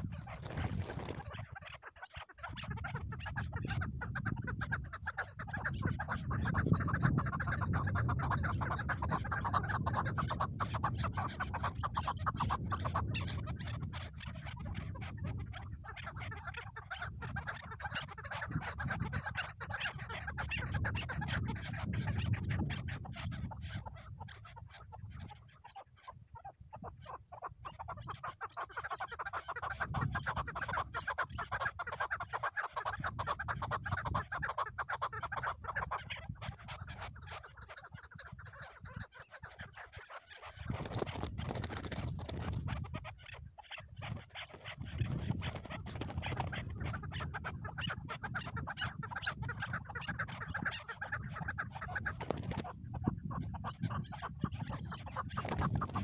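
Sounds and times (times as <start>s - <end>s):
partridges clucking calls: 0.0s - 56.0s.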